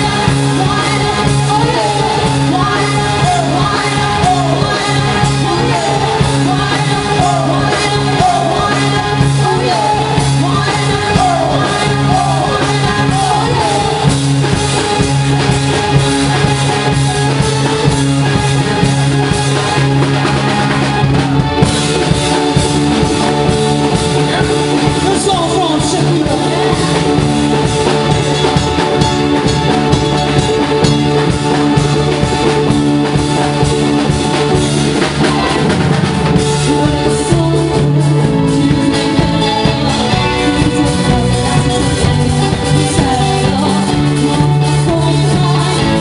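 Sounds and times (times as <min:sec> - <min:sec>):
drum kit beat: 0:00.0 - 0:46.0
keyboard: 0:00.0 - 0:46.0
live band playing dance music: 0:00.0 - 0:46.0.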